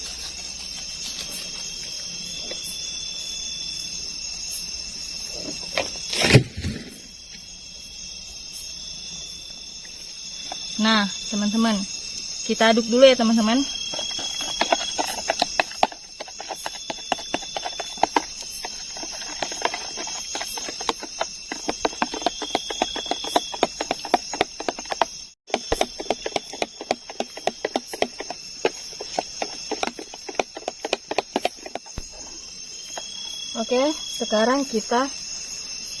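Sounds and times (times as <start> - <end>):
crickets chirping: 0.0 - 36.0
insect trilling call: 0.0 - 36.0.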